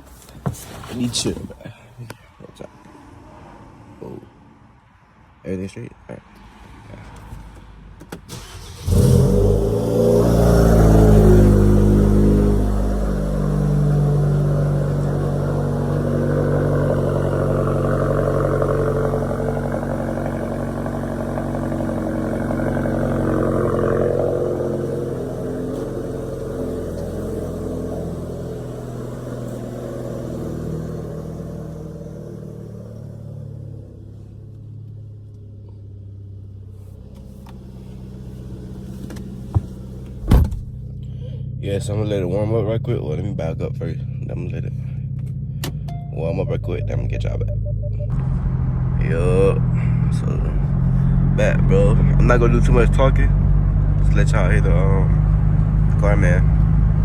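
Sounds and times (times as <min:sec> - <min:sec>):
car engine cold start and idle: 0:08.1 - 0:57.0.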